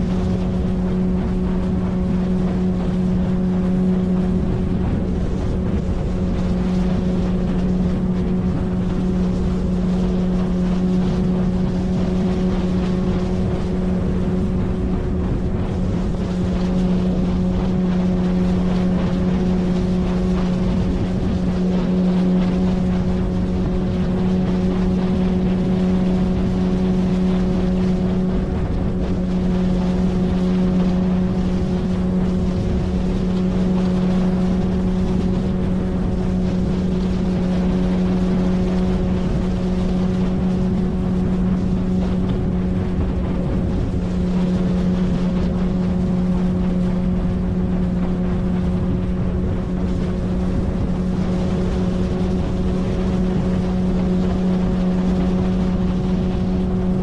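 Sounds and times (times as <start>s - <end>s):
outboard motor humming: 0.0s - 57.0s
rushing water noise: 0.0s - 57.0s.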